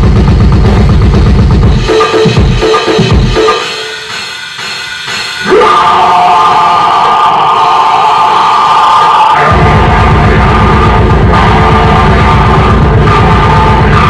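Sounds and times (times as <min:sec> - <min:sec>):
heavy bass and drums: 0:00.0 - 0:07.1, 0:09.4 - 0:14.0
harsh electronic noise: 0:00.0 - 0:14.0.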